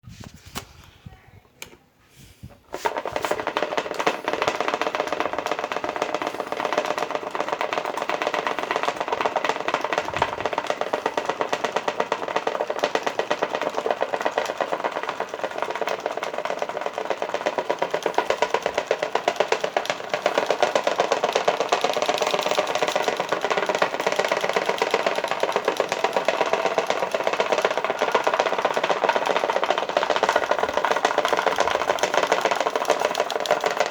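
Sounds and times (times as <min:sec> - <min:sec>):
electric fan rattling: 0:00.2 - 0:33.9.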